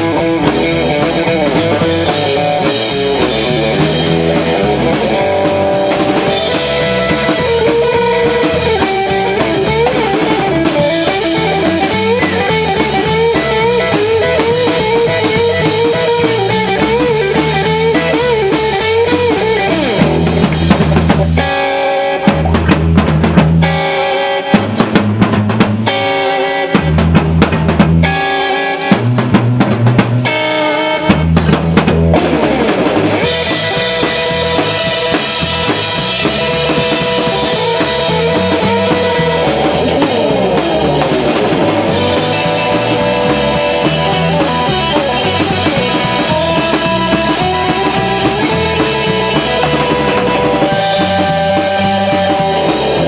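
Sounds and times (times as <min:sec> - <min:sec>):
bass guitar: 0:00.0 - 0:53.0
drums: 0:00.0 - 0:53.0
wavering electric guitar lead: 0:00.0 - 0:53.0.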